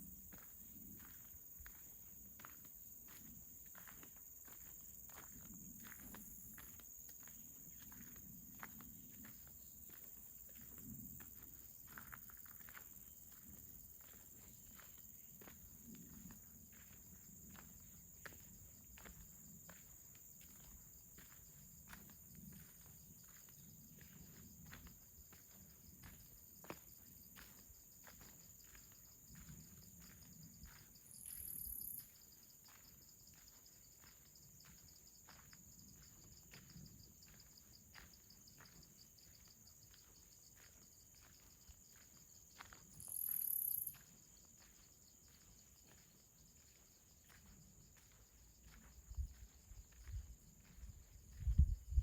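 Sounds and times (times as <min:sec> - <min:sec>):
insects trilling: 0:03.6 - 0:52.0.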